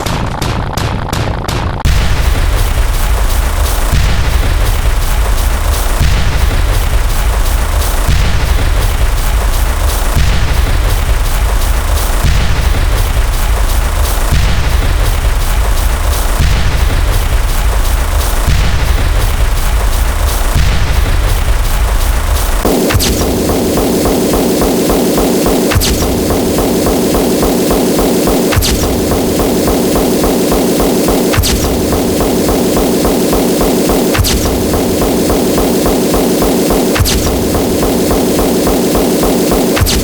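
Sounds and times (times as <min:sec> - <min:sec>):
distorted explosion sound effect: 0:01.9 - 0:40.0.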